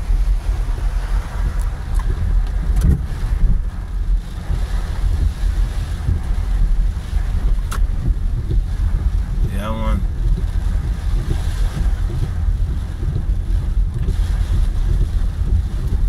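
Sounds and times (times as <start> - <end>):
deep rumble: 0.0 - 16.0
rain hissing on car: 0.0 - 16.0.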